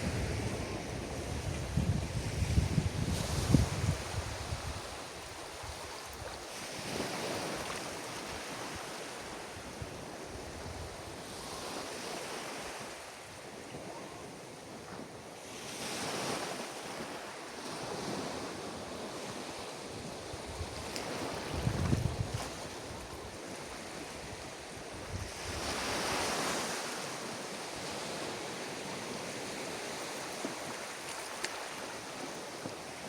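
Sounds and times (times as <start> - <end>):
surf washing onto a beach: 0.0 - 33.0.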